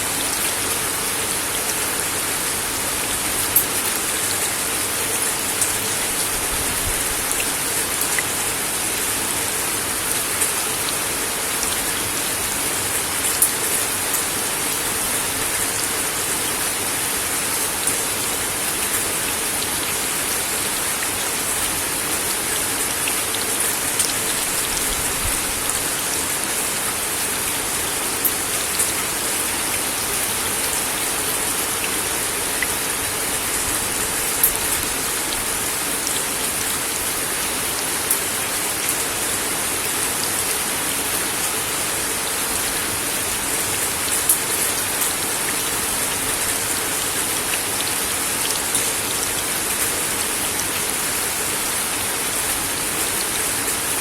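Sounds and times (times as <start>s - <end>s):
rain on a wooden deck: 0.0s - 54.0s.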